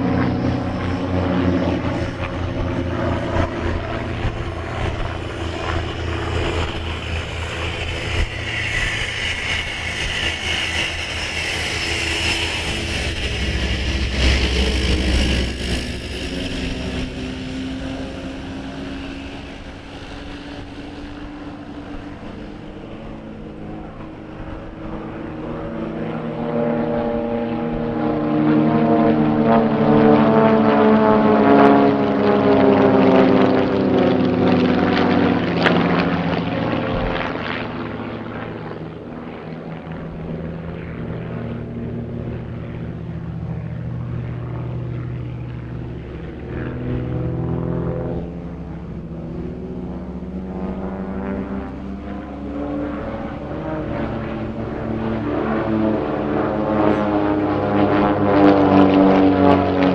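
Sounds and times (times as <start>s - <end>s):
propeller planes droning: 0.0s - 59.9s.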